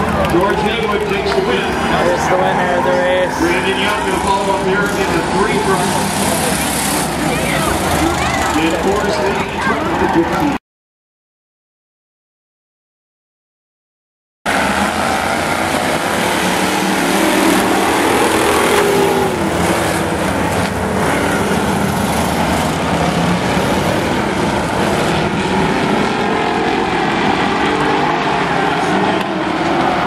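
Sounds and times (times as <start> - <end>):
car engines revving: 0.0 - 10.6, 14.5 - 30.0.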